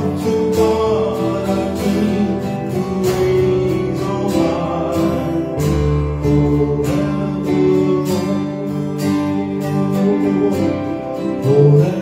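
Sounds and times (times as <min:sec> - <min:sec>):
acoustic guitar strumming: 0:00.0 - 0:12.0
keyboard sustained notes: 0:00.0 - 0:12.0.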